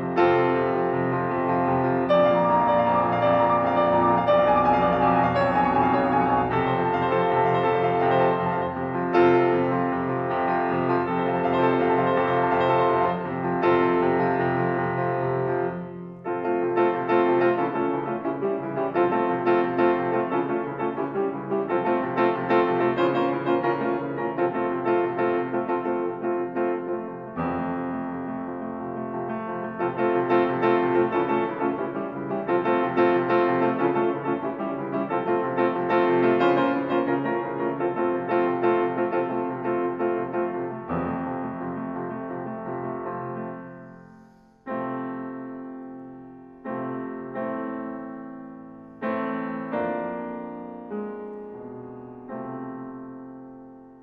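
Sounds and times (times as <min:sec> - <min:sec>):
piano chords: 0:00.0 - 0:54.0.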